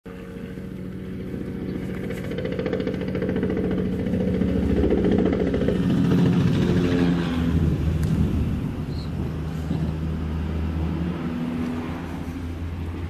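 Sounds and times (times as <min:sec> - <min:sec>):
helicopter engine tone: 0:00.1 - 0:13.0
helicopter rotor chop: 0:00.1 - 0:13.0.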